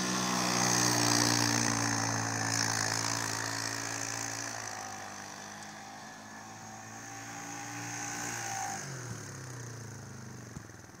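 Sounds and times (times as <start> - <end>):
engine running under throttle: 0.0 - 11.0.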